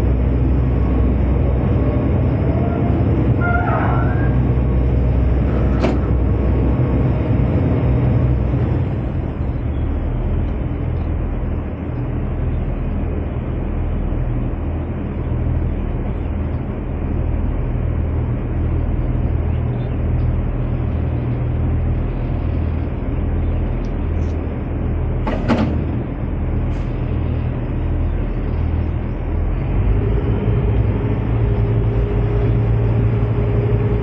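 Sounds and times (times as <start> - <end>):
low engine drone: 0.0 - 34.0
noisy rumble: 0.0 - 34.0.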